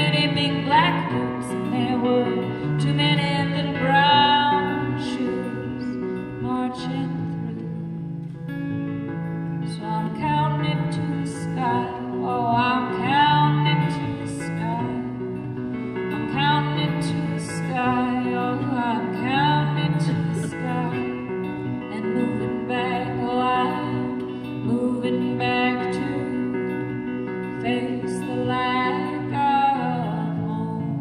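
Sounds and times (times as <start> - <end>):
acoustic guitar: 0.0 - 31.0
woman singing folk song: 0.0 - 31.0.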